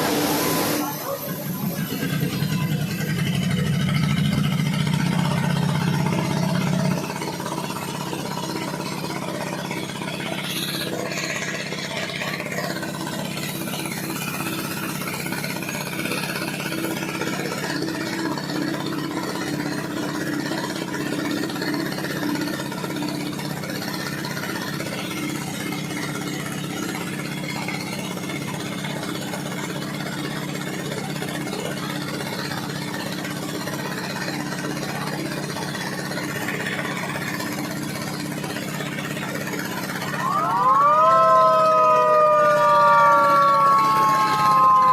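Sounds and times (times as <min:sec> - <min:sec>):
heavy machinery droning: 0:00.0 - 0:44.9.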